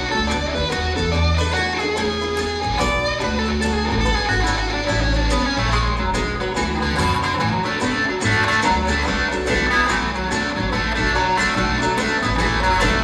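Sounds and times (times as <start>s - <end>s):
bluegrass band playing: 0.0s - 13.0s.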